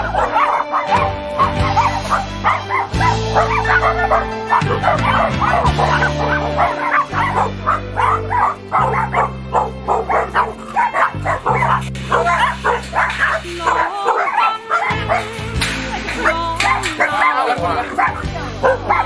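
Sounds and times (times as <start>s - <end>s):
background music with low bass: 0.0s - 19.0s
dogs barking and yipping: 0.0s - 19.0s.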